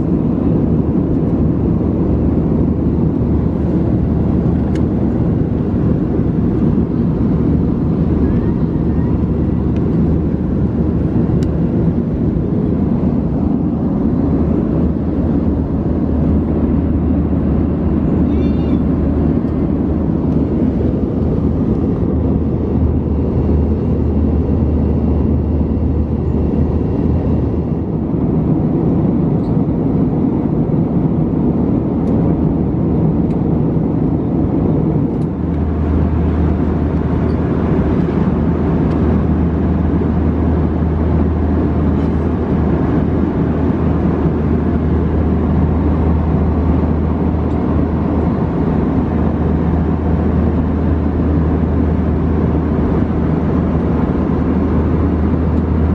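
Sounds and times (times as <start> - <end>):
aircraft engines and airflow rushing: 0.0 - 55.9
low cabin hum: 0.0 - 55.9.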